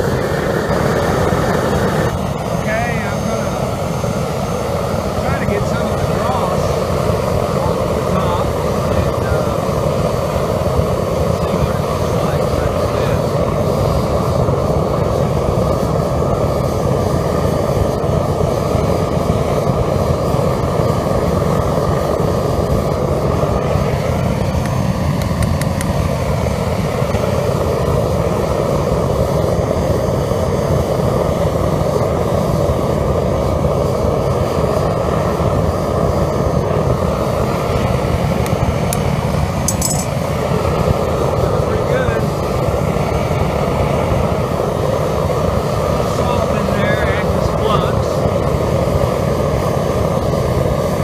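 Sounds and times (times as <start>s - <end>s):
furnace burner and blower roaring: 0.0s - 51.0s.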